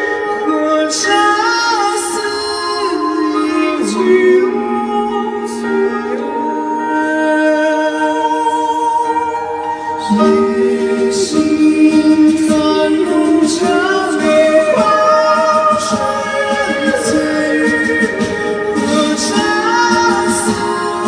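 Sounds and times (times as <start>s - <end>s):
live band playing: 0.0s - 21.0s
person singing long notes: 0.0s - 21.0s.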